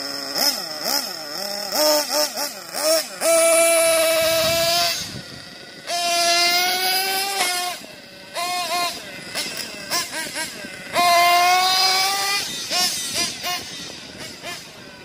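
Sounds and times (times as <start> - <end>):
small engine revving: 0.0 - 15.0.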